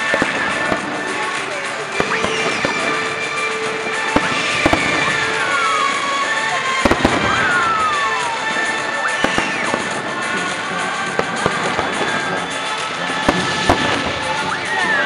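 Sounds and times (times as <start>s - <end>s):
continuous firework din: 0.0s - 15.0s
firework shells bursting: 0.0s - 15.0s.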